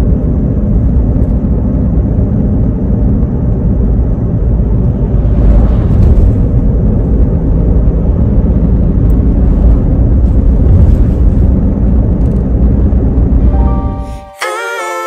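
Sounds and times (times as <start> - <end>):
loud low rumbling: 0.0 - 14.2.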